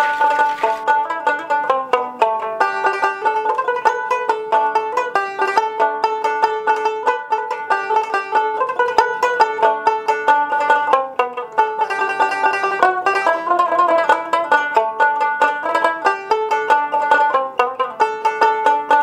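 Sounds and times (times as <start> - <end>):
fast plucked banjo melody: 0.0 - 19.0.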